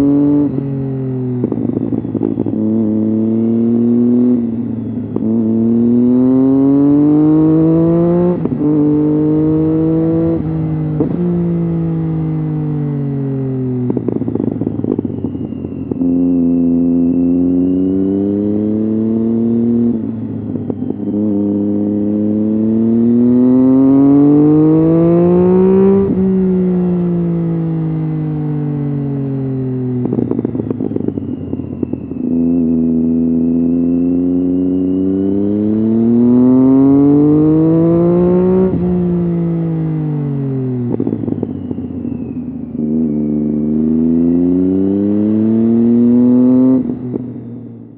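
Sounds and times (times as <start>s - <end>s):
motorcycle engine revving through gears: 0.0s - 47.9s.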